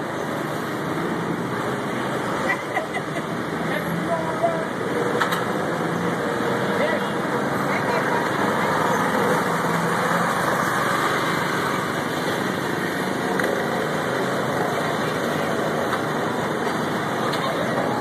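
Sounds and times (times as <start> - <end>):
go-kart engines running: 0.0 - 18.0.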